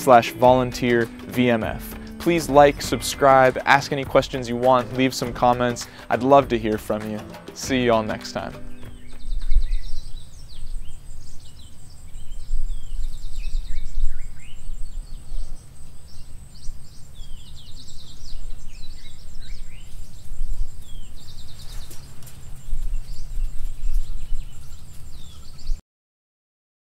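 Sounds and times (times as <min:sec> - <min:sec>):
birds chirping and trilling: 0:00.0 - 0:25.8.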